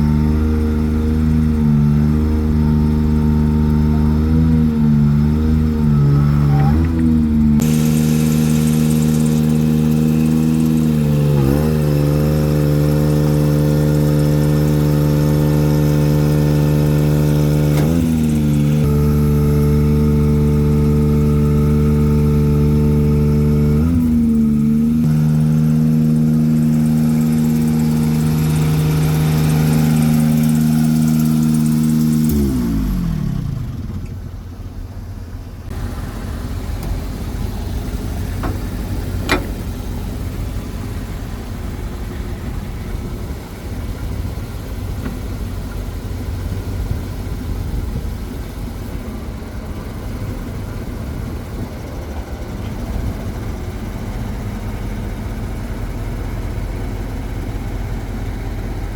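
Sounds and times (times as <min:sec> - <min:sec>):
truck engine rumble: 0:00.0 - 0:58.9.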